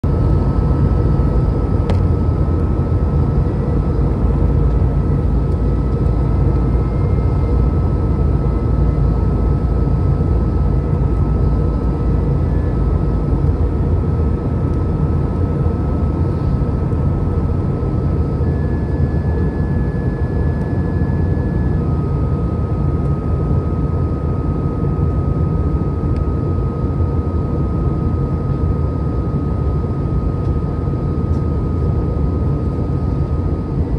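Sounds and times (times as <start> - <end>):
jet engine and airflow rumble: 0.0 - 33.9
thin steady whine: 0.1 - 33.9.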